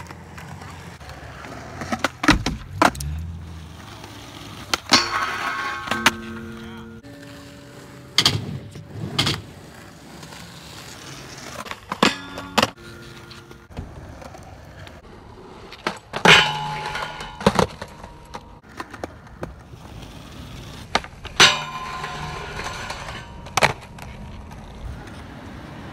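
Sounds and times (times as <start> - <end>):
skateboard popping and landing: 0.0 - 25.9
skateboard trucks grinding steel rail: 0.0 - 25.9
skateboard wheels rolling on concrete: 0.0 - 25.9.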